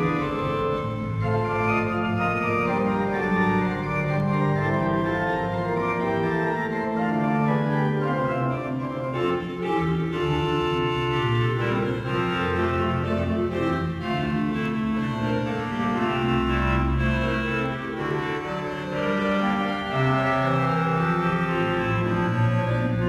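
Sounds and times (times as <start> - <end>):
pipe organ chords: 0.0 - 23.0.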